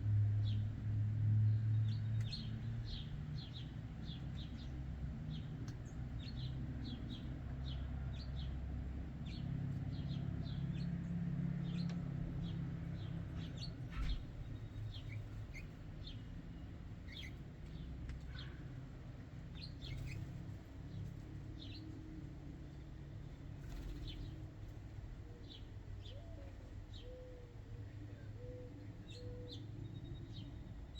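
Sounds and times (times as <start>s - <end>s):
small birds chirping: 1.6s - 30.9s.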